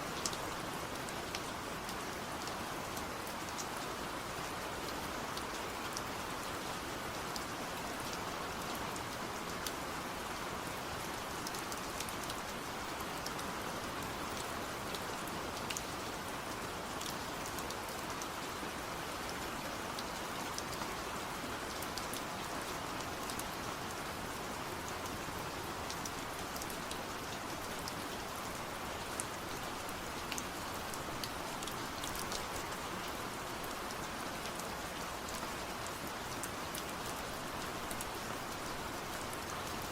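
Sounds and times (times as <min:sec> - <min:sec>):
steady rain falling: 0:00.0 - 0:39.9
raindrops ticking on a surface: 0:00.1 - 0:39.9.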